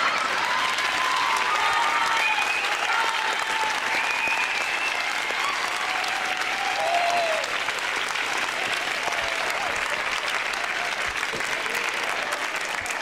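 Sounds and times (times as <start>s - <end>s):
crowd applauding: 0.0s - 13.0s
faint cheering voices: 0.0s - 13.0s.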